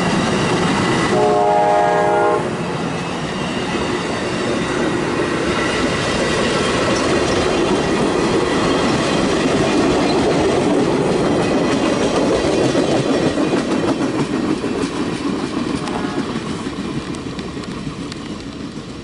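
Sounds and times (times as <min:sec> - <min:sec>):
train cars rumbling past: 0:00.0 - 0:19.0
wheels clicking over rail joints: 0:02.9 - 0:19.0.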